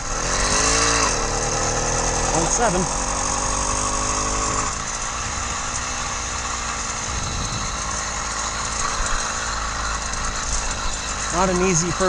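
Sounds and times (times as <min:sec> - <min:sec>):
motorized bicycle engine running: 0:00.0 - 0:12.0.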